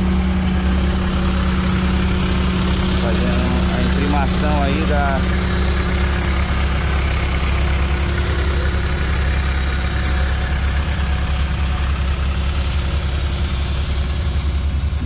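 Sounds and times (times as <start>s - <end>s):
heavy diesel engines idling: 0.0s - 15.0s.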